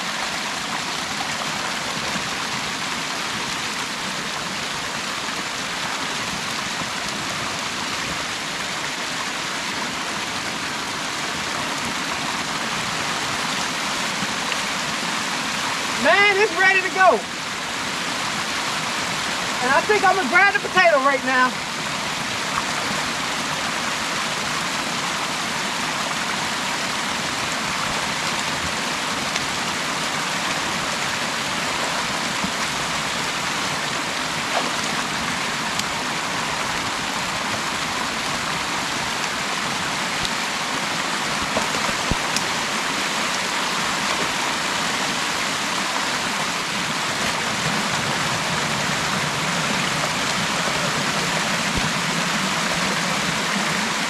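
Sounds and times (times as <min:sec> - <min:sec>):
creek water pouring: 0:00.0 - 0:54.0.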